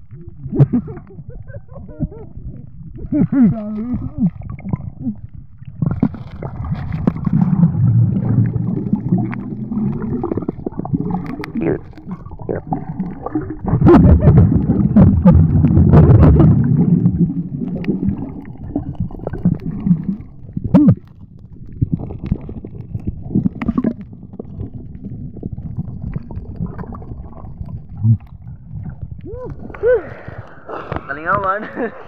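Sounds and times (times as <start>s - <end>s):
underwater gurgling and bubbles: 0.0s - 32.0s.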